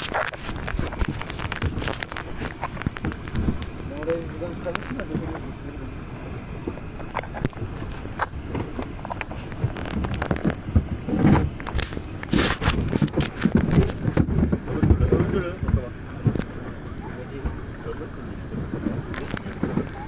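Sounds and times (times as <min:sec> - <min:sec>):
crackles and knocks: 0:00.0 - 0:20.0
water splashing against boat: 0:00.0 - 0:20.0
wind buffeting microphone: 0:00.0 - 0:20.0.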